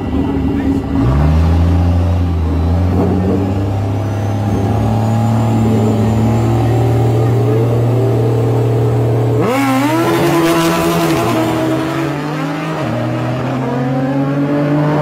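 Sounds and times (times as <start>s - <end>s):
pickup truck engine accelerating: 0.0s - 14.0s
motorcycle engine accelerating: 0.0s - 15.0s.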